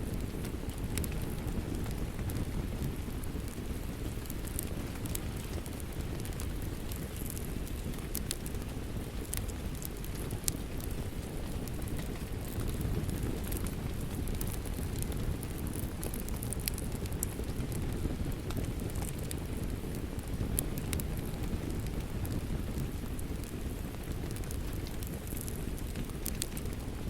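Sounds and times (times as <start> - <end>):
rain: 0.0 - 27.0
wood fire crackling: 0.0 - 27.0.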